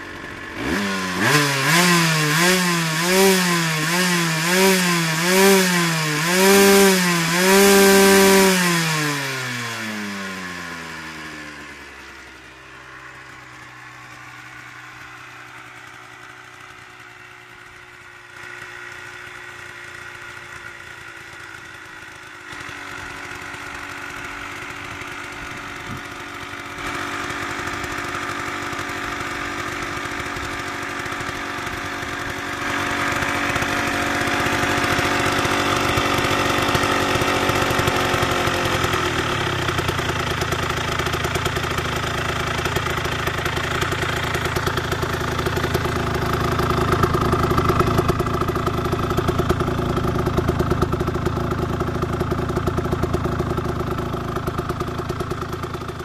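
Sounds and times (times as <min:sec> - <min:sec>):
motorcycle engine revving and idling: 0:00.0 - 0:56.0.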